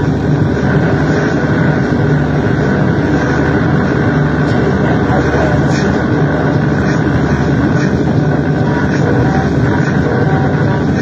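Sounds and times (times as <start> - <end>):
harsh noise music rumbling: 0.0 - 11.0.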